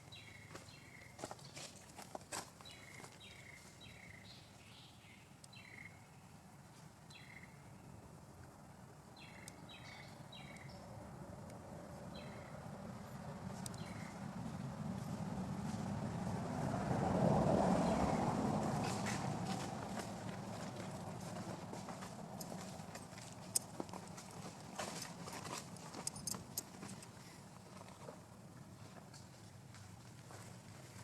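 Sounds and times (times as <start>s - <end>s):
vehicle low rumble: 0.0s - 31.0s.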